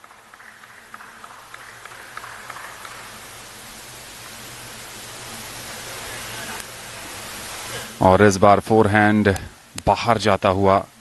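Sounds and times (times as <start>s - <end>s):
arena ambience hiss: 0.0s - 11.0s
faint low hum: 0.0s - 11.0s.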